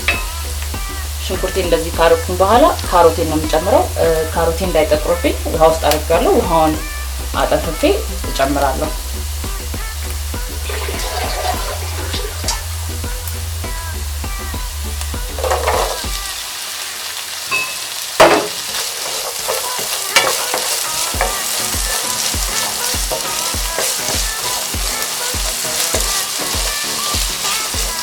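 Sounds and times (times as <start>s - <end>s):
pot stirring: 0.0s - 16.4s, 17.5s - 28.0s
vegetables sizzling in oil: 0.0s - 28.0s.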